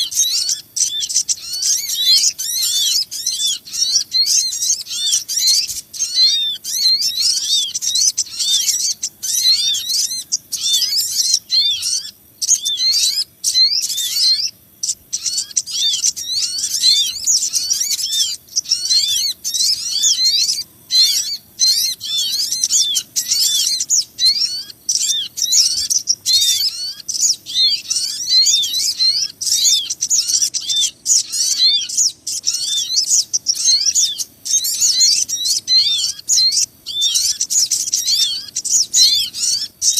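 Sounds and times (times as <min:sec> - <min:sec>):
small birds chirping and scolding: 0:00.0 - 0:39.9.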